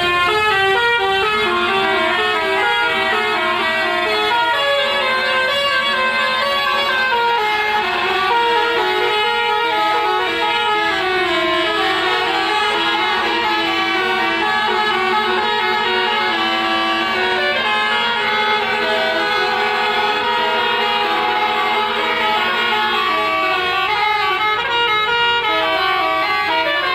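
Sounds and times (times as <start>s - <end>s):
musical bus air horns: 0.0s - 26.9s.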